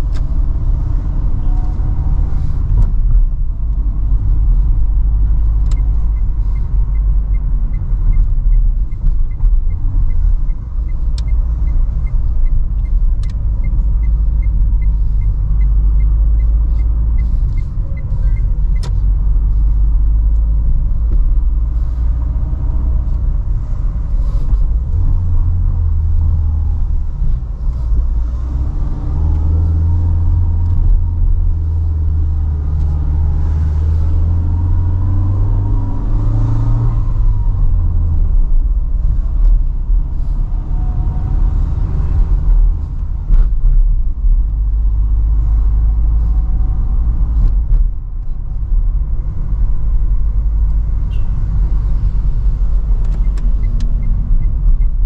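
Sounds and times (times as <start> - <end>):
car engine driving: 0.0 - 55.0
road rumble: 0.0 - 55.0.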